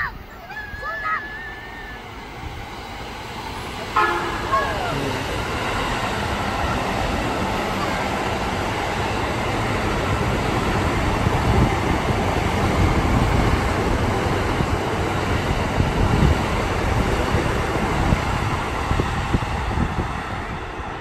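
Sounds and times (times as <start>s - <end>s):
electric train running past: 0.0s - 21.0s.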